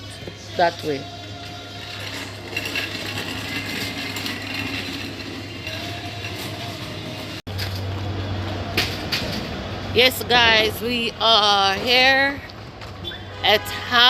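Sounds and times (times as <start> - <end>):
traffic noise: 0.0 - 14.0
vehicle engine humming: 0.0 - 14.0.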